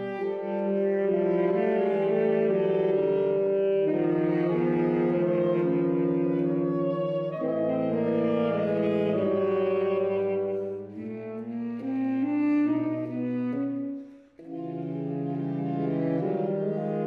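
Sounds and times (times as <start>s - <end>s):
saxophone quartet playing held notes: 0.0s - 17.0s.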